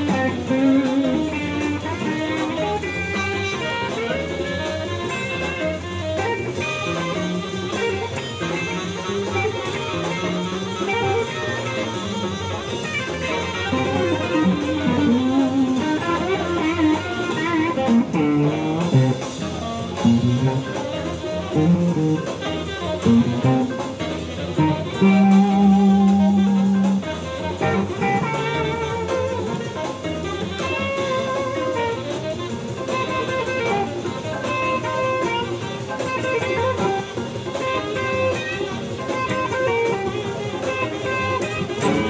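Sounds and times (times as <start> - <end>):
electric guitar lead lines: 0.0 - 42.0.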